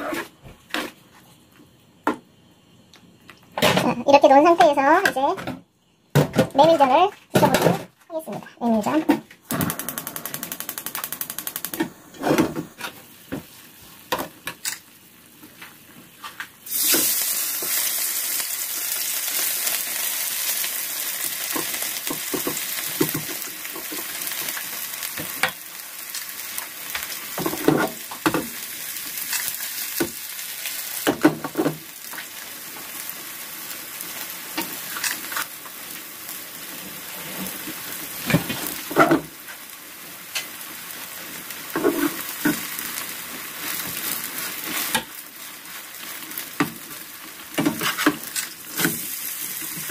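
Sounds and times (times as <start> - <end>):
batter sizzling in oil: 9.6 - 49.9.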